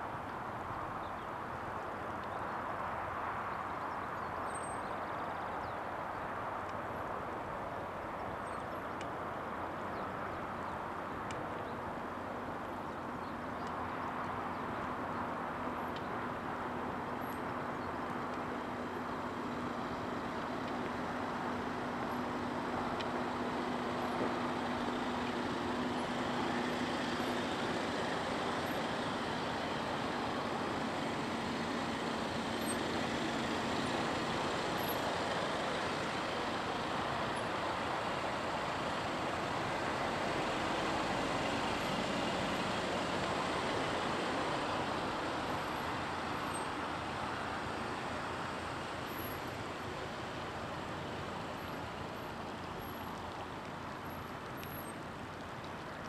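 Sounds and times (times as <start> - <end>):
cars creeping forward: 0.0 - 56.0.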